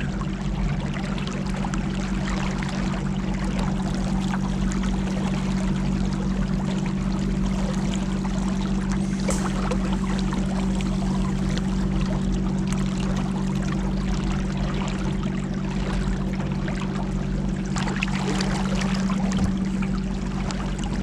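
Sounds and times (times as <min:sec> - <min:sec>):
motorboat engine running: 0:00.0 - 0:21.0
water rushing along hull: 0:00.0 - 0:21.0.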